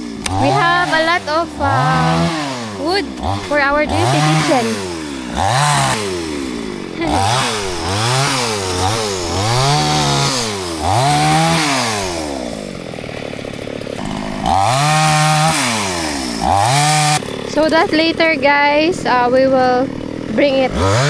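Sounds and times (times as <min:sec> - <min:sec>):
chainsaw revving: 0:00.0 - 0:21.0.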